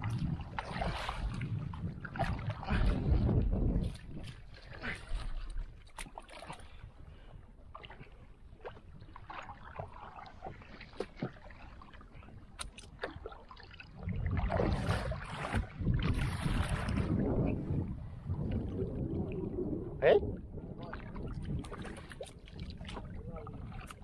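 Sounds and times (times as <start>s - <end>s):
water splashing around canoe: 0.0s - 24.0s.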